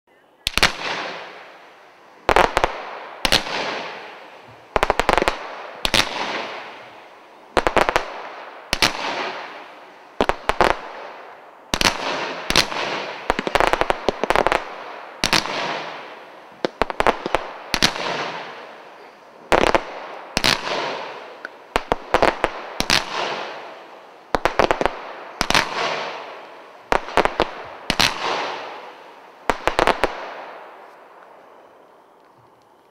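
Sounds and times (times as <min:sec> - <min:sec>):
firework reports with hiss: 0:00.5 - 0:32.9.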